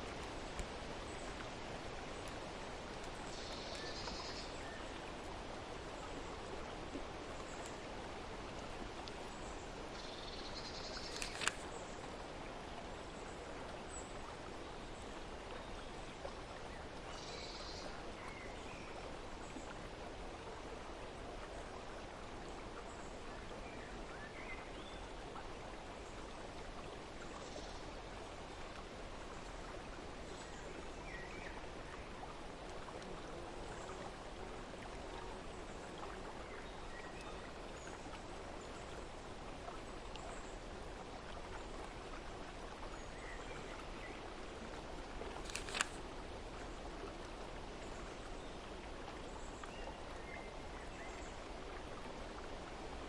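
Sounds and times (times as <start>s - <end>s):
stream water running: 0.0s - 53.0s.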